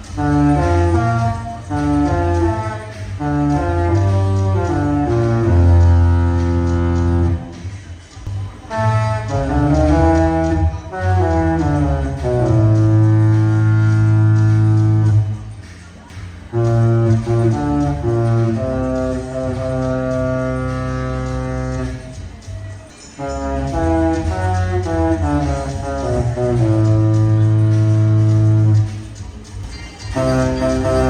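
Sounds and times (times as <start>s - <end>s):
ship melody horn chords: 0.0s - 7.7s, 8.6s - 15.5s, 16.5s - 22.3s, 23.2s - 29.2s, 30.2s - 31.0s.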